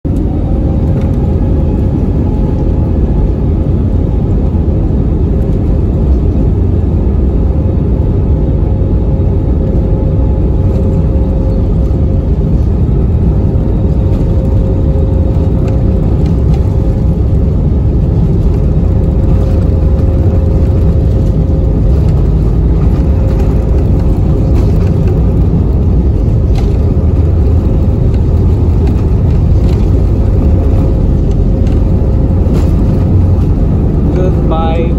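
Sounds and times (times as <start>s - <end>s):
jet engine cabin rumble: 0.0s - 34.9s.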